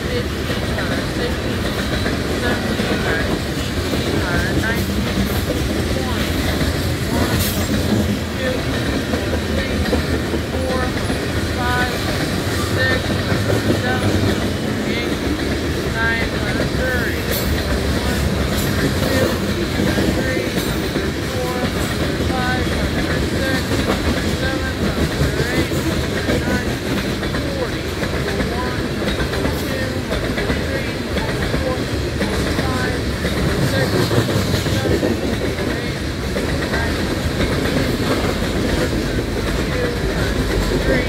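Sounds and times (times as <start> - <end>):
train wheels clickety-clack: 0.0 - 41.0.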